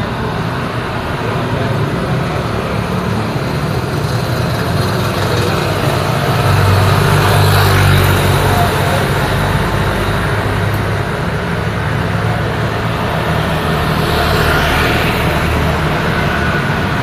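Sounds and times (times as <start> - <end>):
engine hum: 0.0 - 17.0
road noise: 0.0 - 17.0.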